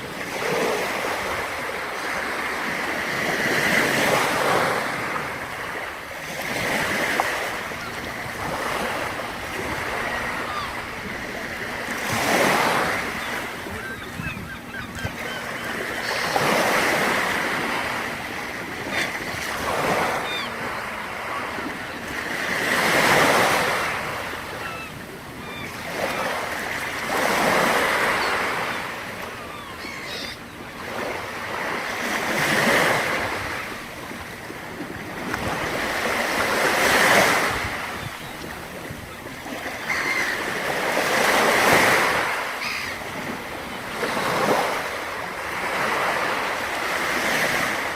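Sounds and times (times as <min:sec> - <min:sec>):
waves breaking on shore: 0:00.0 - 0:47.9.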